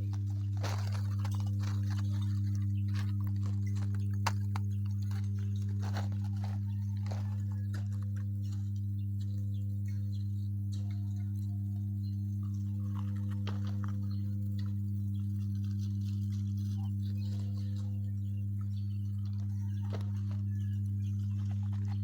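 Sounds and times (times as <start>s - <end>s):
deep electrical transformer hum: 0.0s - 22.0s.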